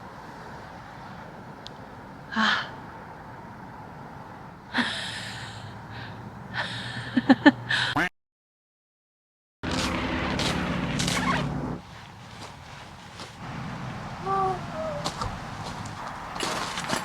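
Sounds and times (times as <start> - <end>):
outdoor background hiss: 0.0 - 7.7, 9.7 - 17.0.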